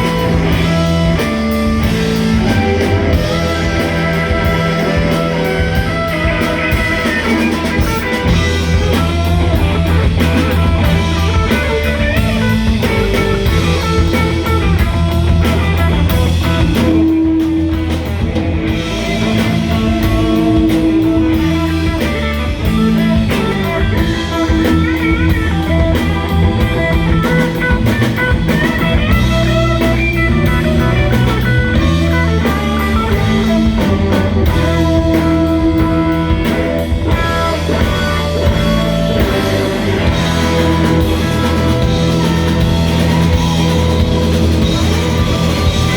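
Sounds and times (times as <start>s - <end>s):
bass guitar: 0.0s - 45.9s
drum kit beat: 0.0s - 45.9s
electric guitar lead: 0.0s - 45.9s.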